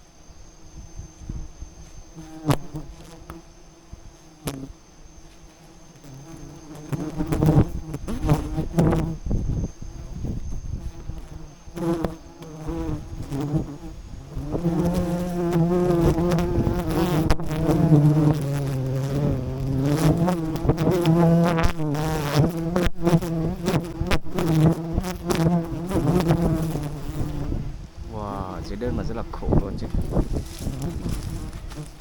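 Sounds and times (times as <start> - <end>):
bees buzzing: 0.4 - 32.0.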